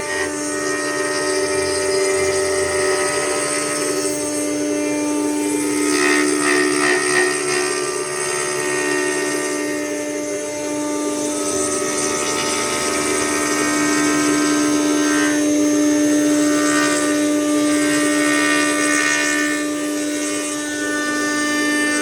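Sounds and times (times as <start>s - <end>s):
router cutting wood: 0.0s - 22.0s
router spindle whine: 0.0s - 22.0s.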